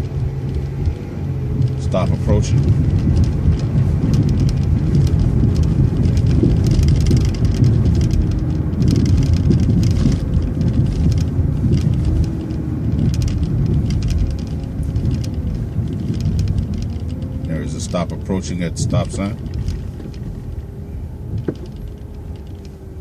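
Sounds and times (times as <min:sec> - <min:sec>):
bus engine and road rumble: 0:00.0 - 0:23.0
drivetrain whine: 0:00.0 - 0:23.0
light rattling: 0:00.0 - 0:23.0.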